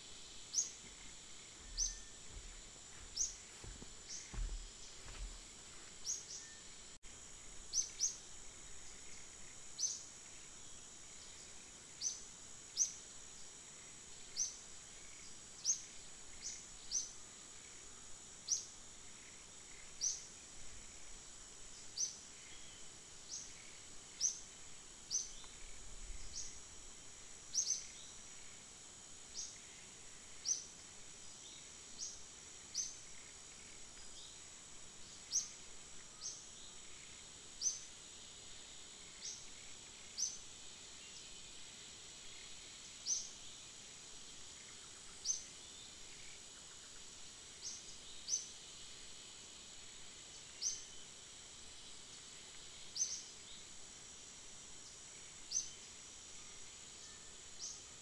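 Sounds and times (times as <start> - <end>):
insect buzz: 0.0 - 58.0.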